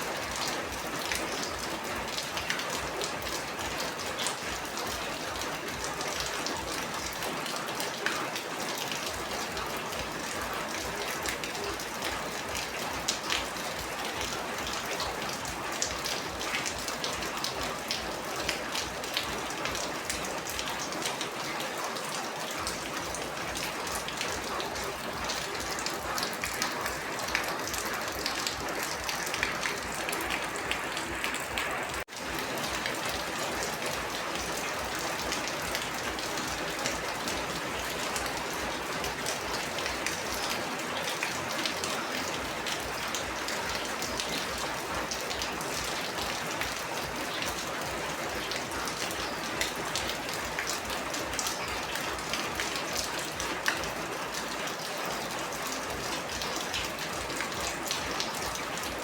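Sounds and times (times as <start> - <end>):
rain drops striking a surface: 0.0 - 59.0.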